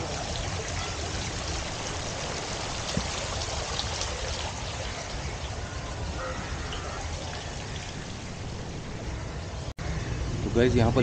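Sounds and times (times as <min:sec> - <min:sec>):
fountain water splashing: 0:00.0 - 0:09.7.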